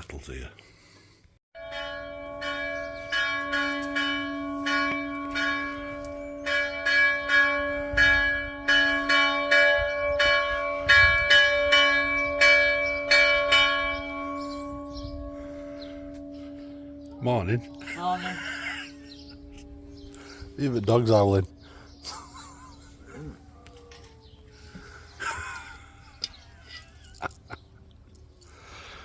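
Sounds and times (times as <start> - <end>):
church bells ringing: 1.6 - 27.6.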